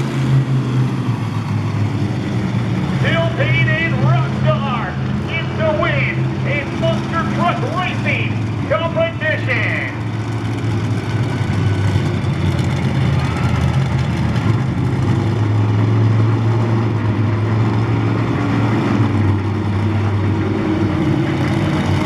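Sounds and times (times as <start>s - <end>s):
truck engine revving high: 0.0s - 22.0s.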